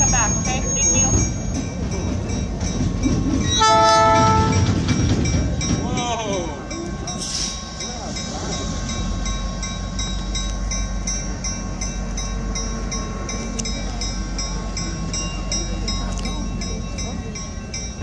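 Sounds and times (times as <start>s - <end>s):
moving train rumble: 0.0s - 18.0s
railroad bell ringing: 0.0s - 18.0s.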